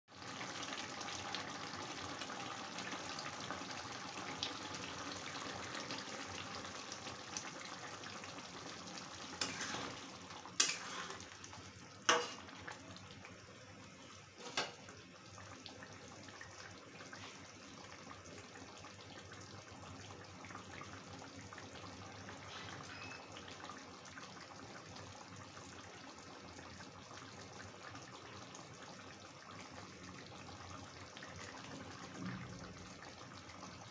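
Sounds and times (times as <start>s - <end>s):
curry simmering and bubbling: 0.1s - 33.9s.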